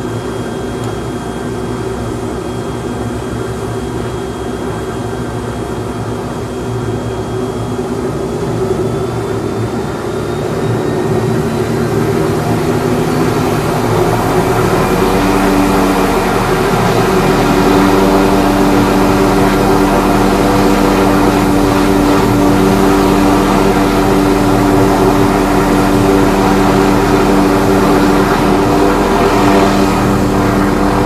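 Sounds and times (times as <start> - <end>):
helicopter engine and rotors: 0.0 - 31.0
steady rotor tone: 0.0 - 31.0.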